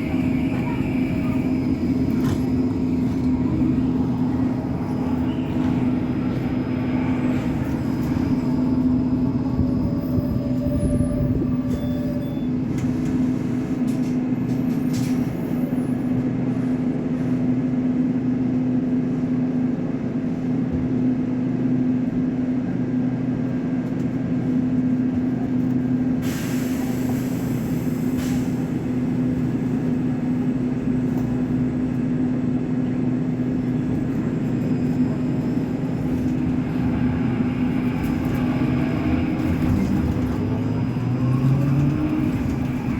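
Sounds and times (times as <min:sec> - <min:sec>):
trolleybus mechanical hum: 0:00.0 - 0:42.9.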